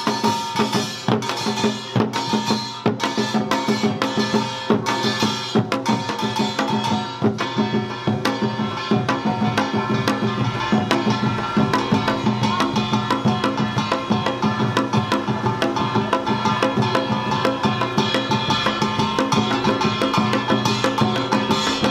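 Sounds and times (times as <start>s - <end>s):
drums: 0.0s - 21.9s
large gong ringing: 0.0s - 21.9s
small gong clanging: 0.0s - 21.9s.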